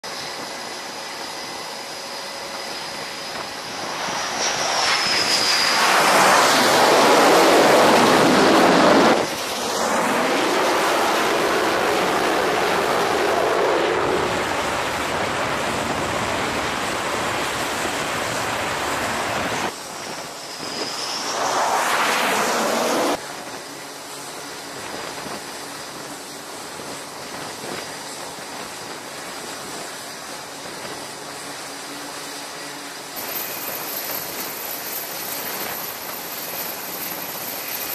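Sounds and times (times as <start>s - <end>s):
wind and deck noise: 0.0s - 37.9s
fighter jet engines roaring: 0.1s - 37.9s
high engine whine: 0.1s - 37.9s.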